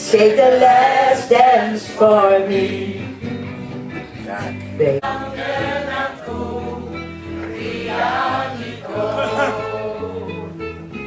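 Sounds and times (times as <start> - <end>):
choir singing: 0.1 - 3.2, 5.0 - 10.8.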